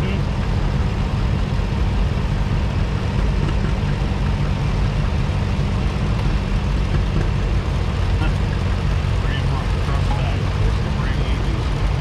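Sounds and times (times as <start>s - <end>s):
tractor engines droning: 0.0s - 12.0s.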